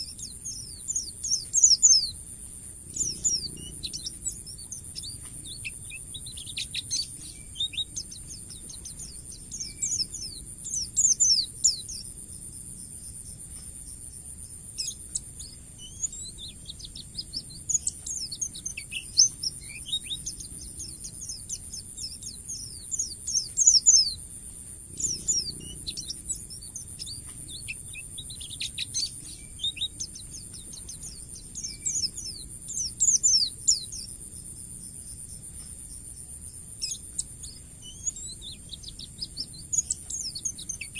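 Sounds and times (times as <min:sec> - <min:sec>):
bird high twittering song: 0:00.0 - 0:40.9
steady high-pitched hiss: 0:00.0 - 0:40.9.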